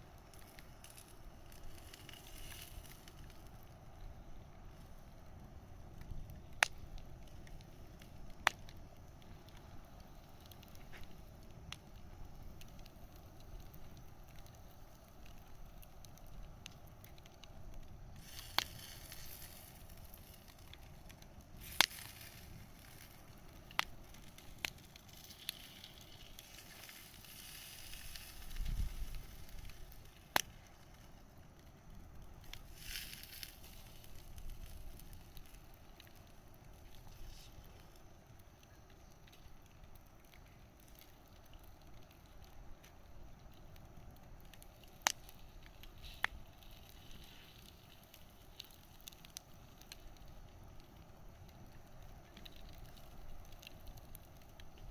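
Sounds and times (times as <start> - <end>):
campfire popping and crackling: 0.0 - 54.9
fire hissing softly: 0.0 - 54.9.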